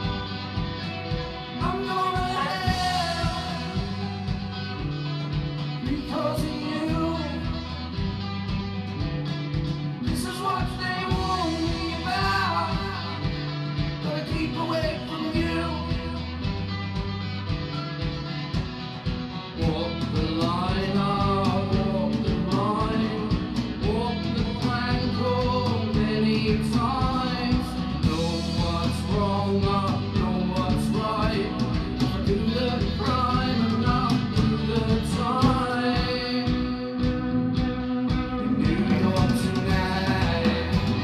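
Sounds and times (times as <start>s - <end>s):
man singing: 0.0s - 8.3s, 10.0s - 16.6s, 19.5s - 41.0s
bass guitar: 0.0s - 41.0s
drum kit: 0.0s - 41.0s
electric guitars: 0.0s - 41.0s.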